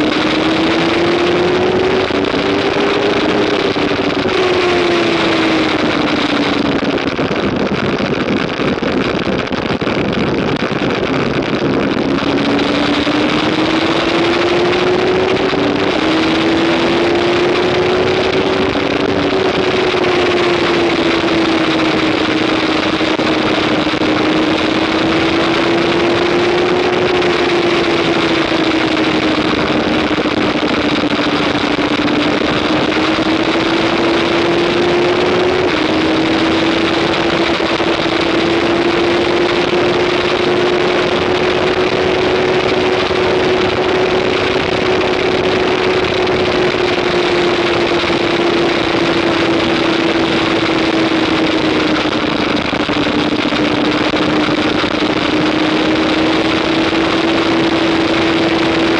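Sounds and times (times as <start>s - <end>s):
motorcycle engine running hard: 0.0s - 58.9s.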